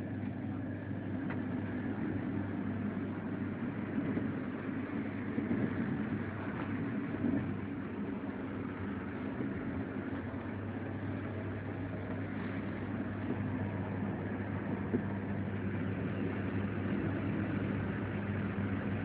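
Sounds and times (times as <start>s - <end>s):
low hum: 0.0s - 19.0s
train rumbling: 0.0s - 19.0s.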